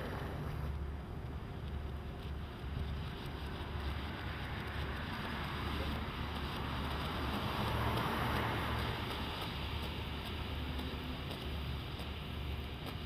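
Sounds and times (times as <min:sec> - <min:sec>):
smoke firework hissing: 0:00.0 - 0:13.0.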